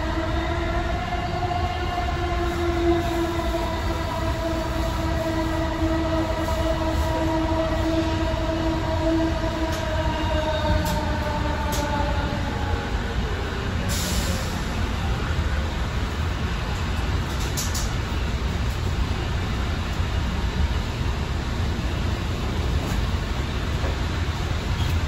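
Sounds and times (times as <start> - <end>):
rumble of train wheels: 0.0 - 25.0.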